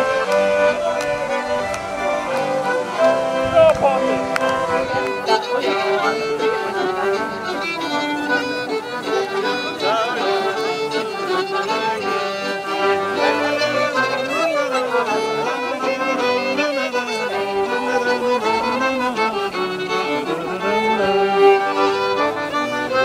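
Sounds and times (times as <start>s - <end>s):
fiddle playing folk dance tune: 0.0s - 23.0s.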